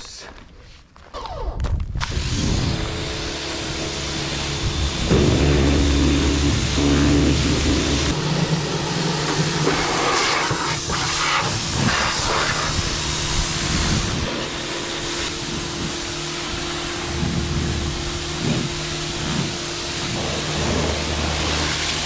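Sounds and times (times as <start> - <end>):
pressure washer spray hiss: 2.2 - 22.0
pump hum: 2.2 - 22.0.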